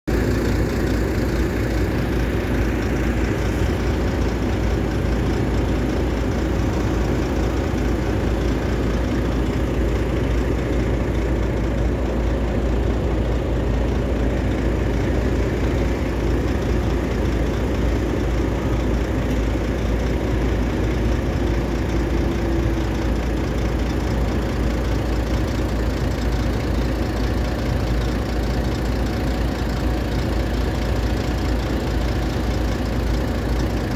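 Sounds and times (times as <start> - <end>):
heavy diesel engine running: 0.1 - 33.9.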